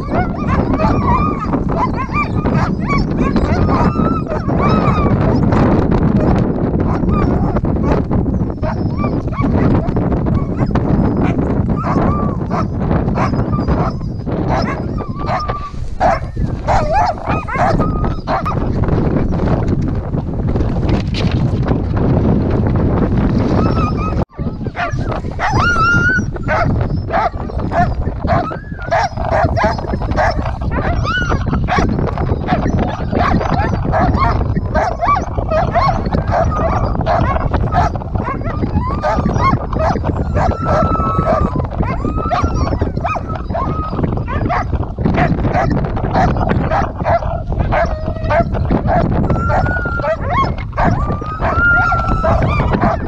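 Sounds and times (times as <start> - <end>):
sled dogs yelping and howling: 0.0 - 19.4, 23.3 - 53.0.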